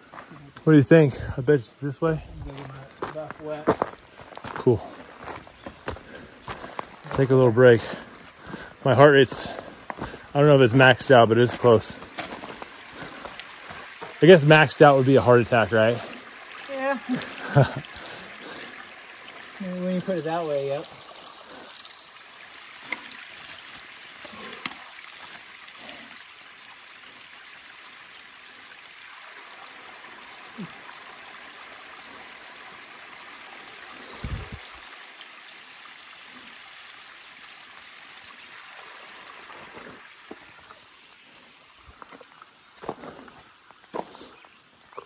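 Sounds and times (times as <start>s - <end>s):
creek water trickling: 0.0s - 45.0s.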